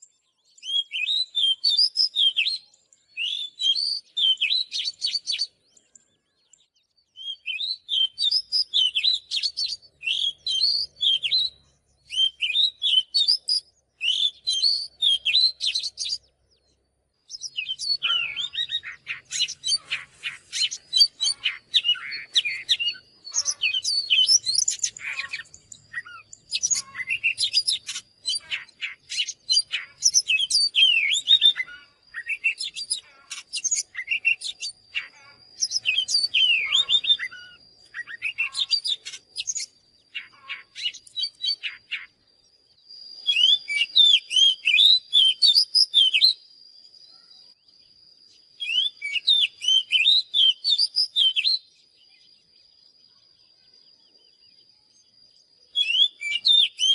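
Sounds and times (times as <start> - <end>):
bird song whistles and trills: 0.0 - 56.9.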